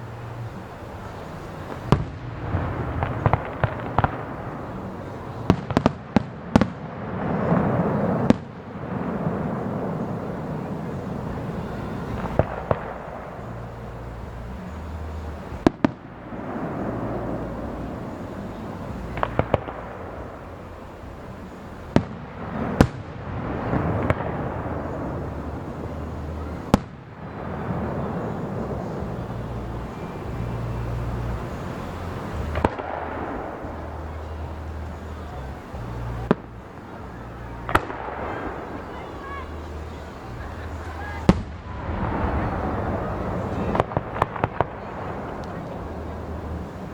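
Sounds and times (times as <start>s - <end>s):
firework shells bursting: 0.0s - 46.9s
lingering rumble: 0.0s - 46.9s.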